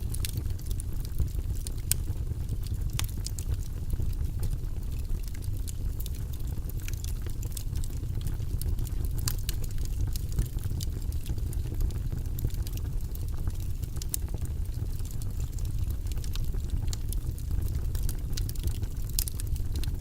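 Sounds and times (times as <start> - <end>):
low rush of flames: 0.0 - 20.0
wood logs crackling and popping: 0.0 - 20.0.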